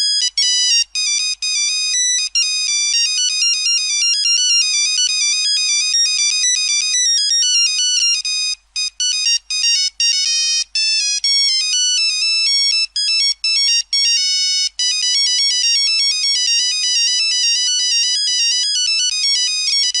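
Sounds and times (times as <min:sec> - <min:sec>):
phone ringtone melody: 0:00.0 - 0:20.0.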